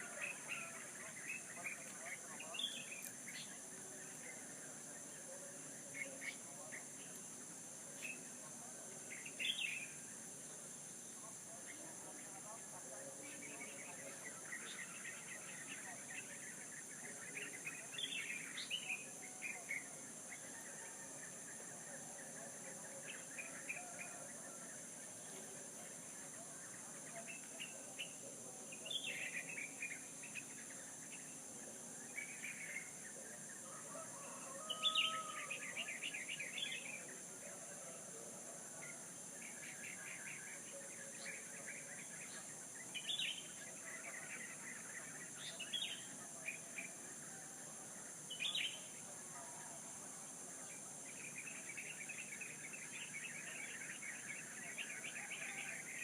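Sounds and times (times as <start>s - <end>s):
songbirds chirping and trilling: 0.0s - 56.0s
steady high-pitched hiss: 0.0s - 56.0s.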